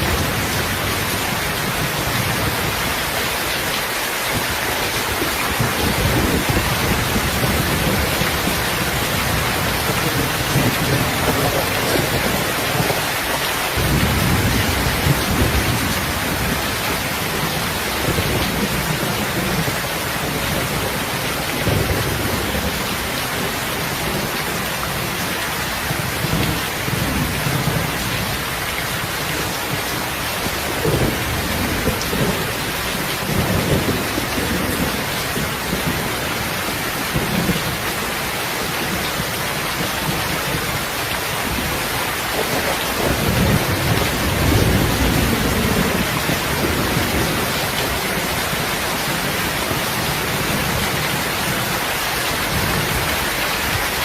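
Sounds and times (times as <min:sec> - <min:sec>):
heavy rain: 0:00.0 - 0:54.0
thunder rumbling: 0:04.4 - 0:13.2, 0:13.8 - 0:54.0.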